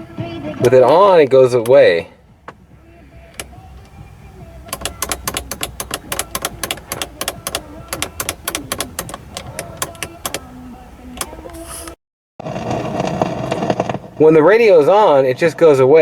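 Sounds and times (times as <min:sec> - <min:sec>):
crackling clicks from car speakers: 0:00.2 - 0:14.7.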